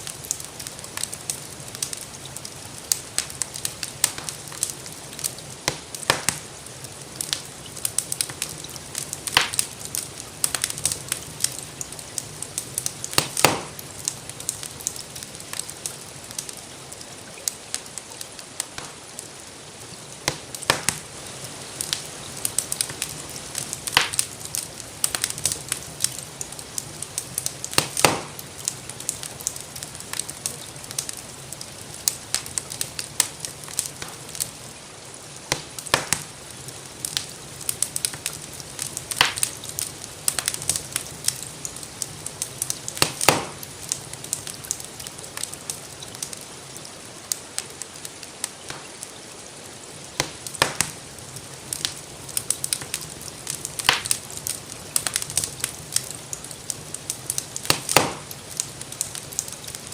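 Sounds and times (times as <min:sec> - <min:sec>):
rain hissing: 0:00.0 - 0:59.9
wood fire crackling: 0:00.0 - 0:59.9.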